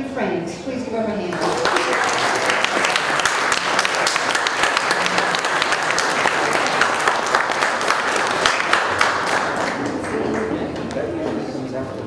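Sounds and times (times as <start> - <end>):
crowd applauding: 1.3 - 11.2.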